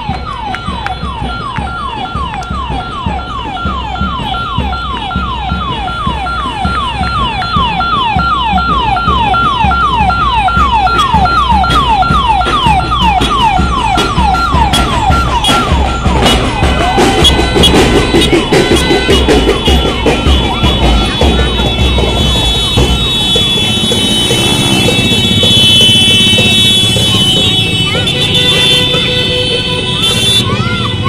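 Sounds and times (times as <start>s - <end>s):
electronic siren whooping: 0.0s - 27.5s
vehicle engines rumbling: 0.0s - 31.0s.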